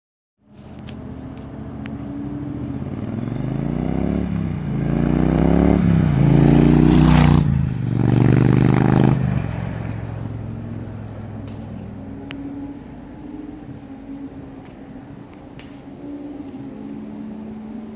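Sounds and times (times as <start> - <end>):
motorcycle engine revving: 0.5 - 17.9.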